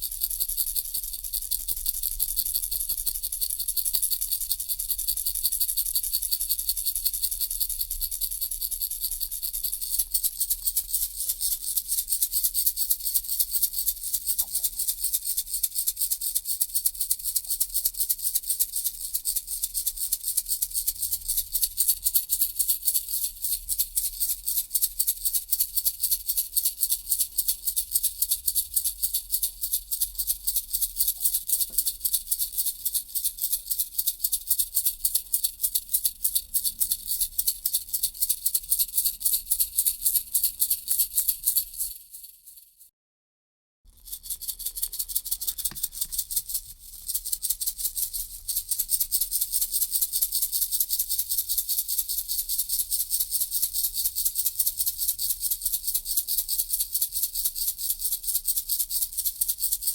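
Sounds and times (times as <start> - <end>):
baby rattle shaken: 0.0 - 42.8, 43.9 - 59.9.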